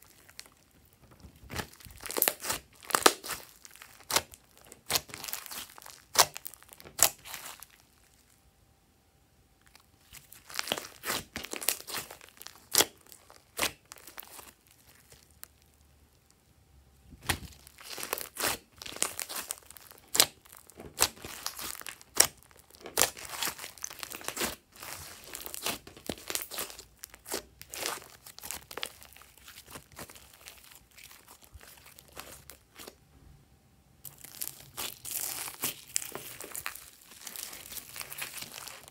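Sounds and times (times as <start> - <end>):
slime crackling and popping: 0.0 - 8.4, 9.6 - 16.2, 17.2 - 32.9, 34.1 - 38.9.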